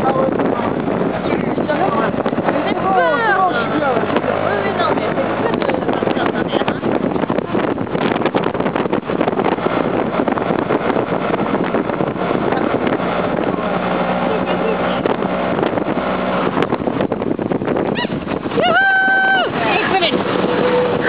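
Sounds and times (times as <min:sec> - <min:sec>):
auto-rickshaw engine running: 0:00.0 - 0:21.0
wind rushing past: 0:00.0 - 0:21.0.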